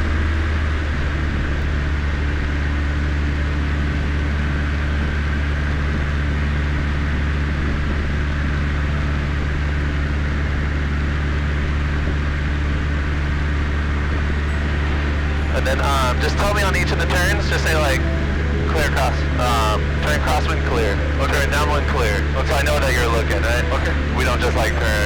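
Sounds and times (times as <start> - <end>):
airplane engine and propeller droning: 0.0 - 25.0.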